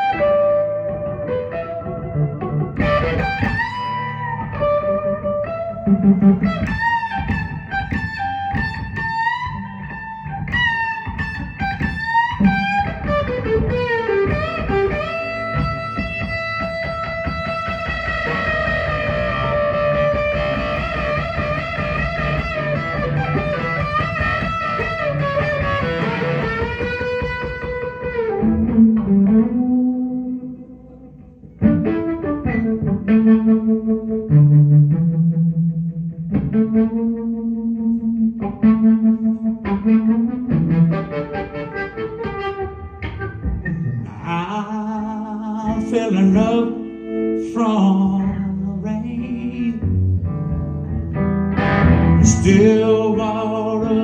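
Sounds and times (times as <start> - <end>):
electric guitar solo: 0.0 - 54.0.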